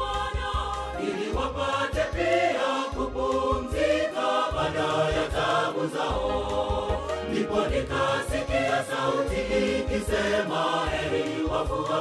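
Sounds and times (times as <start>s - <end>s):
choir singing in harmony: 0.0s - 12.0s
instrumental backing with bass: 0.0s - 12.0s.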